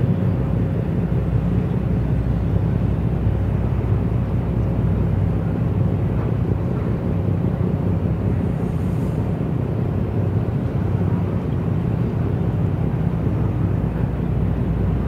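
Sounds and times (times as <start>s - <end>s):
diesel boat engines rumbling: 0.0s - 15.0s.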